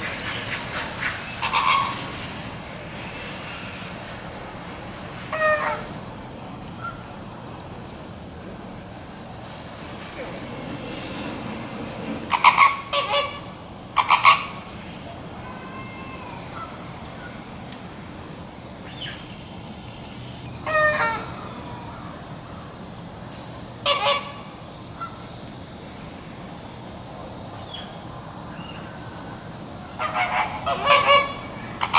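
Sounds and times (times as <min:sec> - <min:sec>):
flamingos honking: 0:00.0 - 0:04.0, 0:05.2 - 0:07.8, 0:09.8 - 0:17.6, 0:18.4 - 0:26.6, 0:28.8 - 0:31.9.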